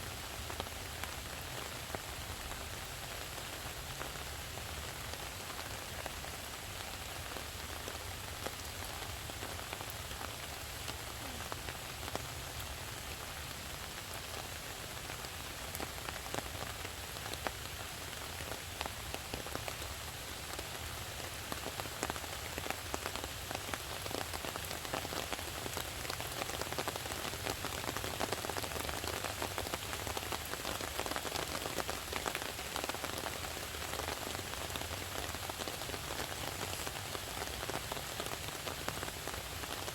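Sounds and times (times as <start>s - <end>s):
rain drops ticking: 0.0s - 39.9s.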